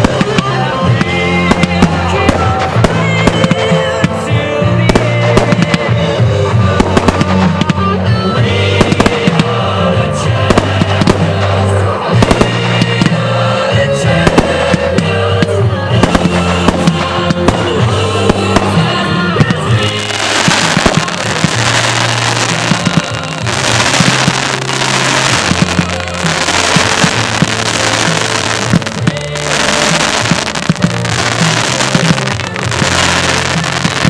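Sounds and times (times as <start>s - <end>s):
hissing fountain sparks: 0.0s - 6.0s, 8.5s - 34.0s
fireworks bursting and crackling: 0.0s - 34.0s
loud music with bass line: 0.0s - 34.0s.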